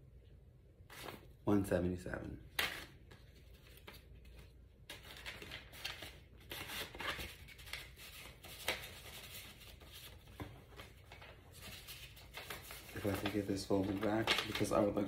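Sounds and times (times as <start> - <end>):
paper rustling and crinkling: 0.9 - 1.3, 2.6 - 15.0.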